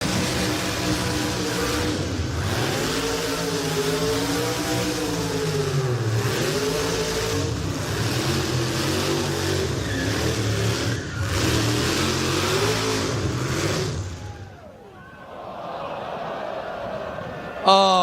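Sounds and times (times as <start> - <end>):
car engine revving: 0.0 - 14.7.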